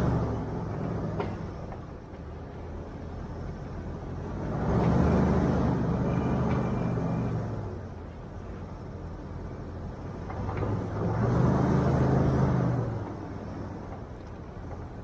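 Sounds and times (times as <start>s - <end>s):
off-road vehicle engine: 0.0s - 15.0s.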